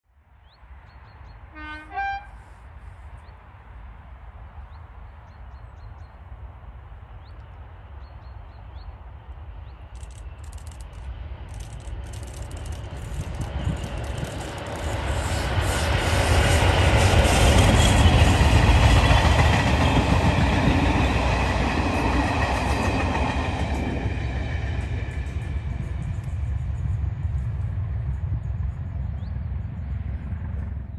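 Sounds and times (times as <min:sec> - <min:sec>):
diesel locomotives passing: 0:00.5 - 0:30.9.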